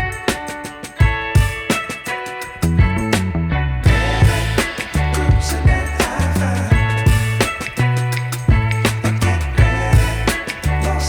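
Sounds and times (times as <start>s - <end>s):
funk music with drums bass guitar: 0.0s - 11.0s.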